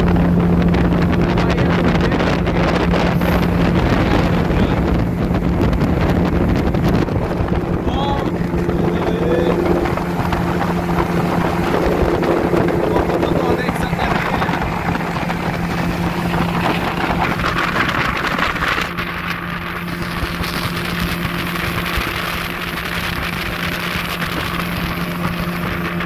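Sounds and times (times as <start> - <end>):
outboard motor running: 0.0 - 26.0
water and wind rushing: 0.0 - 26.0.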